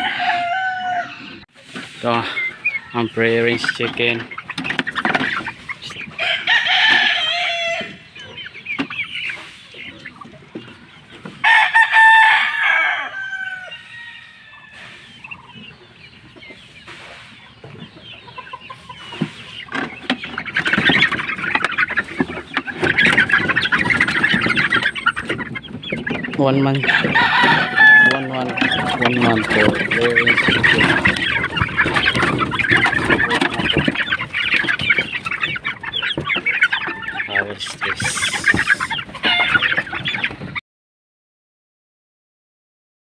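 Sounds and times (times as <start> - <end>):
chickens clucking: 0.0 - 40.6
loud drawn-out chicken calls: 0.0 - 40.6.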